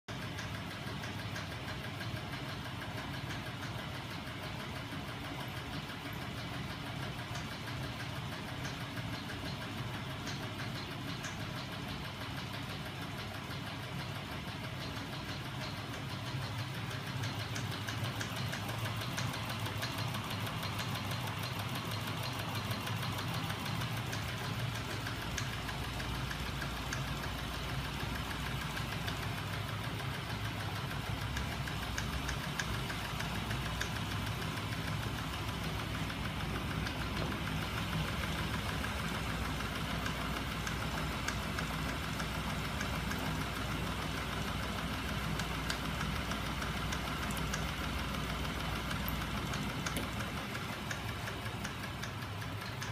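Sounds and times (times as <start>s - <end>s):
machine whirring and ticking: 0.1s - 52.9s.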